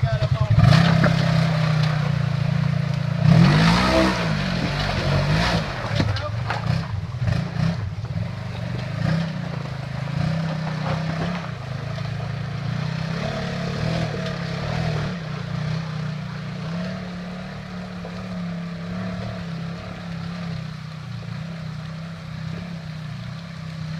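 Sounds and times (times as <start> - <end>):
engine running under load: 0.0 - 23.9.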